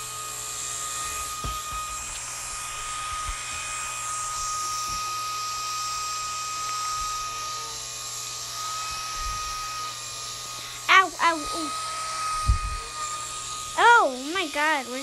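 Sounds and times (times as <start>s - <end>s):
toy propellers whining: 0.0s - 15.0s.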